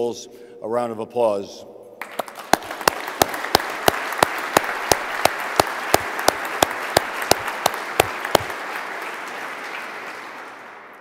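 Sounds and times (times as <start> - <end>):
audience applauding: 2.0 - 11.0
person clapping close to microphone: 2.0 - 11.0.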